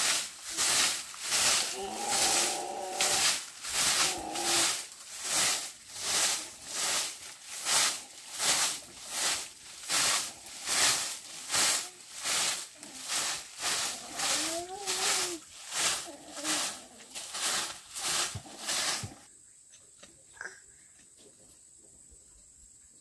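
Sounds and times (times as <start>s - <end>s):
broom sweeping dirt floor: 0.0s - 20.2s.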